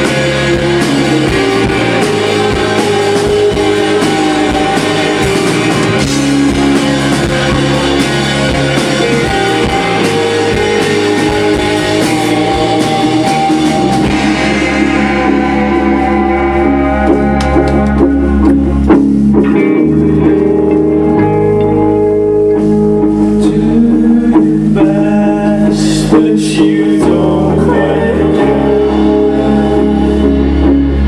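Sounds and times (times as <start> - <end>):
loud rock music with singing: 0.0 - 31.0.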